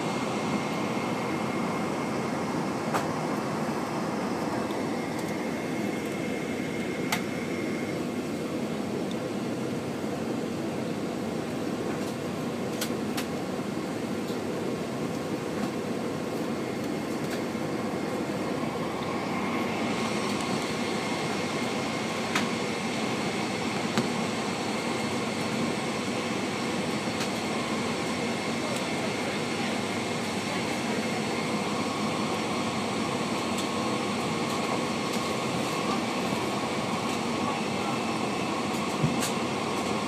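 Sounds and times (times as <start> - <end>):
aircraft cabin engine rumble: 0.0 - 40.0
high engine whine: 0.0 - 40.0.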